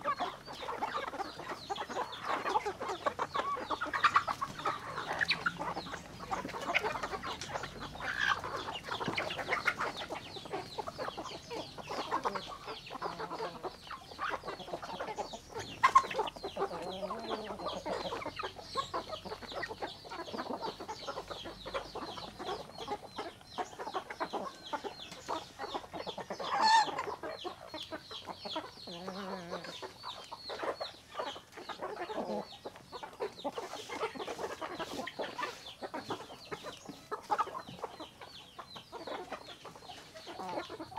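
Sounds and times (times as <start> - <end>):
chicken squawk: 0.0 - 40.9
chickens clucking: 0.0 - 40.9.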